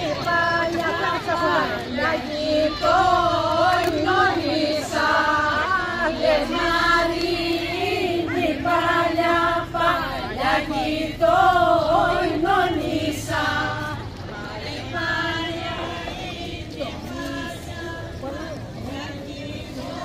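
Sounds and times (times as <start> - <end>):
women singing unaccompanied: 0.0 - 20.0.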